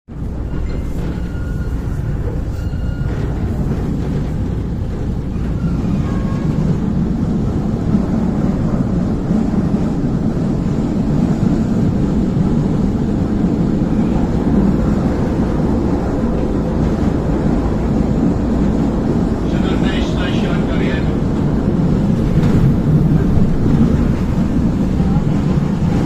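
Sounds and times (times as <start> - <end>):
train rumbling: 0.1 - 26.0.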